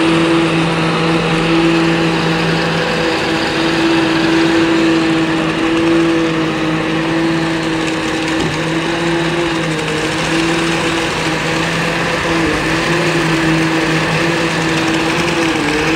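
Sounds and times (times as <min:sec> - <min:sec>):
concrete mixer truck machine hum: 0:00.0 - 0:15.9.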